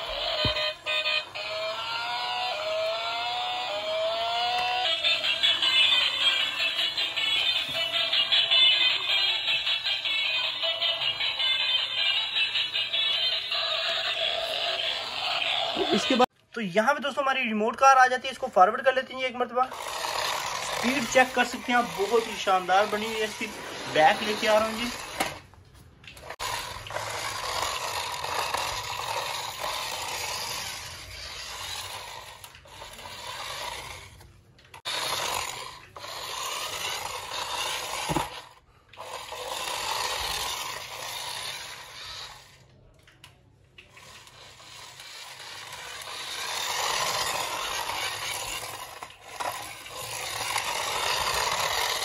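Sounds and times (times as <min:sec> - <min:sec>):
toy car motor whirring: 0:00.0 - 0:16.3, 0:19.6 - 0:25.5, 0:26.2 - 0:42.9, 0:43.8 - 0:52.0
wheels scraping on stone floor: 0:00.0 - 0:16.3, 0:19.7 - 0:42.7, 0:43.8 - 0:52.0.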